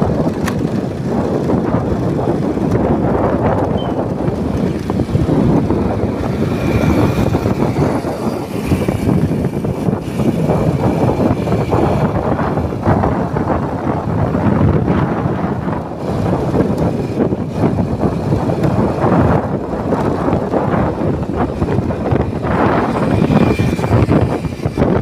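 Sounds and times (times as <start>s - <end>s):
motorcycle engine rumble: 0.0s - 25.0s
wind buffeting microphone: 0.0s - 25.0s.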